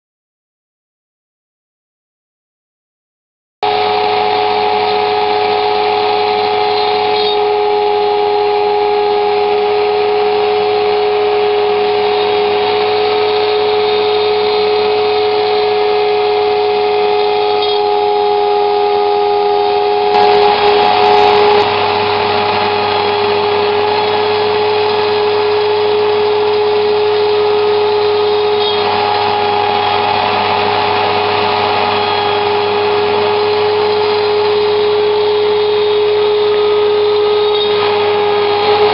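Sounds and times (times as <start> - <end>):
vacuum cleaner rushing: 3.6 - 38.9
rotary tool milling wood: 3.7 - 38.9.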